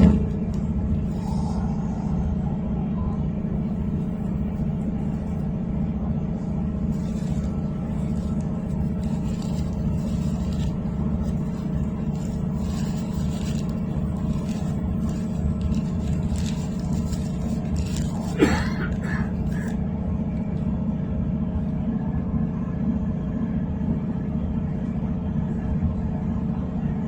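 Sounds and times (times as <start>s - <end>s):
train rumble from inside: 0.0s - 27.0s.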